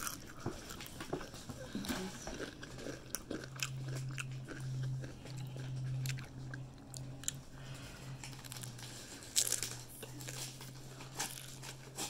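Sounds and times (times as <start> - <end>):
chewing pizza with crunches: 0.0 - 12.0
steady low hum: 0.0 - 12.0.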